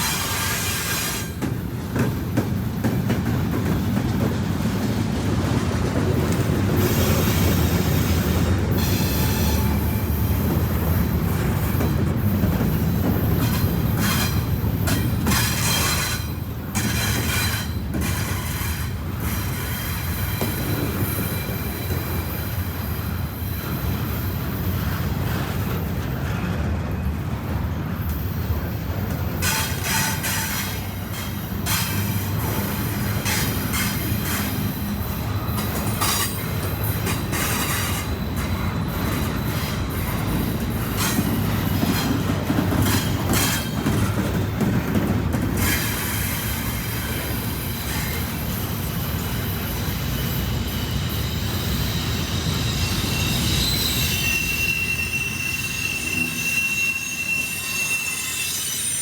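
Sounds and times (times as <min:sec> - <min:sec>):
wheels clacking over rail joints: 0:00.0 - 0:28.3, 0:28.9 - 0:49.4
freight train rumbling past: 0:00.0 - 0:59.0
wheels squealing on rails: 0:00.0 - 0:59.0.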